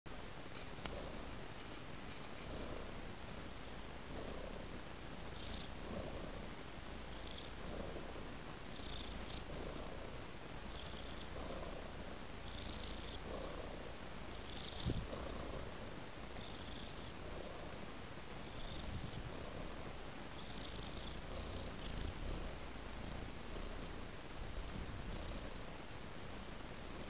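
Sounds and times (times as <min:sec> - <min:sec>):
cat purring: 0:00.2 - 0:27.0.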